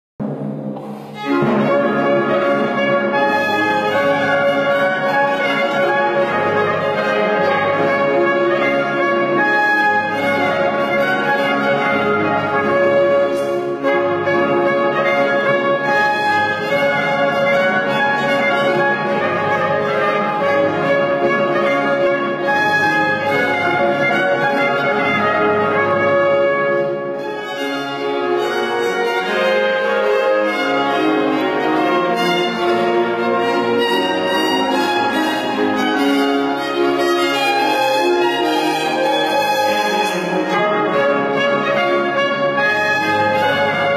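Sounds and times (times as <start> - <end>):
strings: 0.2 - 43.9
trumpet: 0.2 - 43.9
trombone: 1.2 - 43.9.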